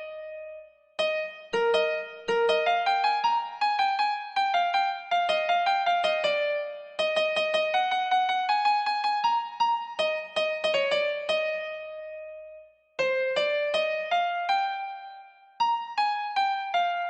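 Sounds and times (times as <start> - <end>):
electric keyboard melody: 0.0 - 17.0.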